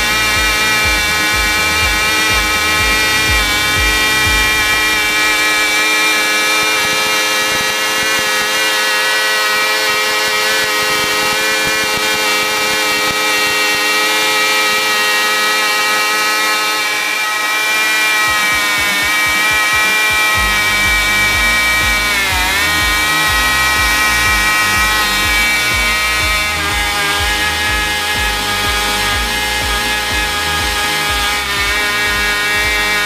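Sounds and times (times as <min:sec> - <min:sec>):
model engines high-pitched whine: 0:00.0 - 0:33.0.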